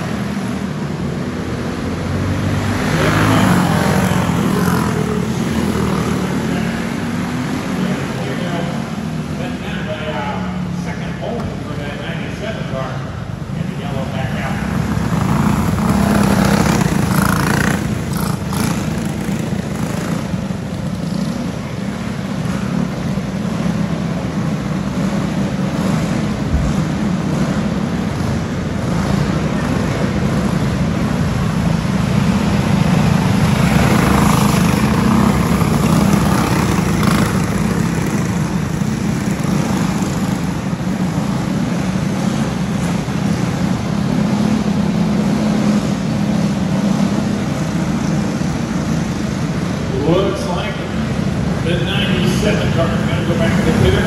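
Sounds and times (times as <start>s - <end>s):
go-kart engines buzzing: 0.0s - 54.0s.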